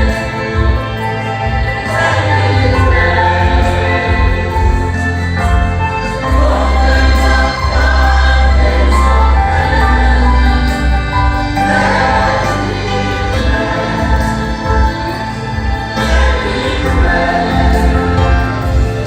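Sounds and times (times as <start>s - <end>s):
choir singing gospel song: 0.0s - 19.0s
instrumental backing with bass: 0.0s - 19.0s.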